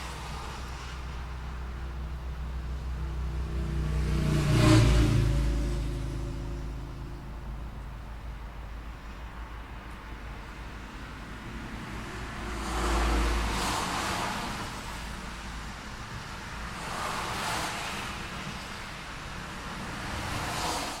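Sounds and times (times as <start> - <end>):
road traffic rumble: 0.0 - 21.0
vehicles passing: 0.0 - 21.0.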